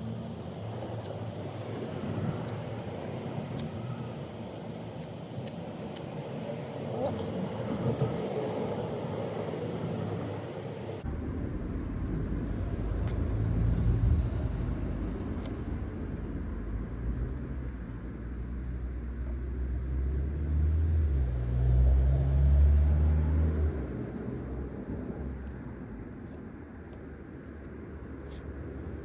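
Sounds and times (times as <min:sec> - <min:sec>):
car engine rumble: 0:00.0 - 0:29.0.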